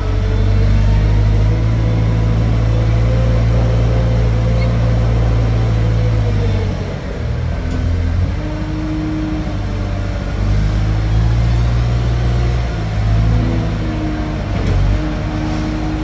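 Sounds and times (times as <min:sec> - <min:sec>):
wheel loader diesel engine: 0:00.0 - 0:16.0.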